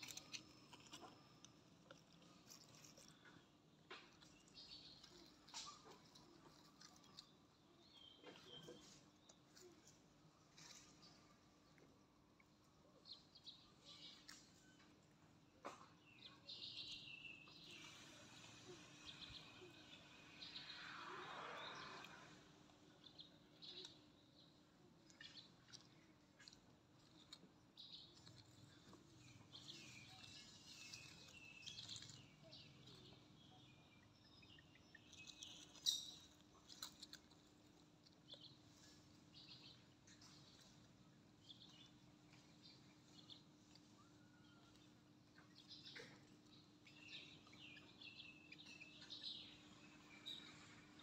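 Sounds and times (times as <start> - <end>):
faint birds chirping: 0.0 - 51.0.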